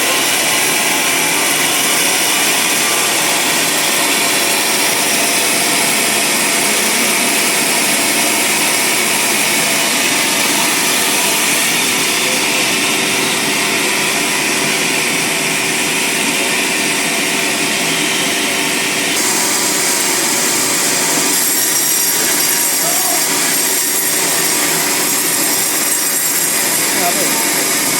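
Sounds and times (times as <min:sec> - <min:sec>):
band saw cutting log: 0:00.0 - 0:27.9.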